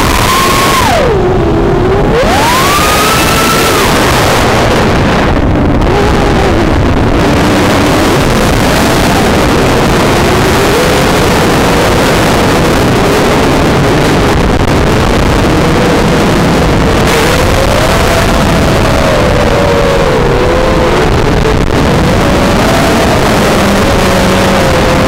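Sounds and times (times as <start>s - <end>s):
drone motors buzzing: 0.0s - 25.0s
wind rushing over microphone: 0.0s - 25.0s.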